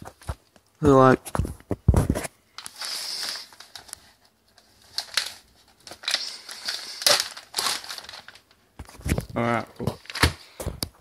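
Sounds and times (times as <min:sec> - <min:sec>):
rustling and crinkling: 0:00.0 - 0:11.0.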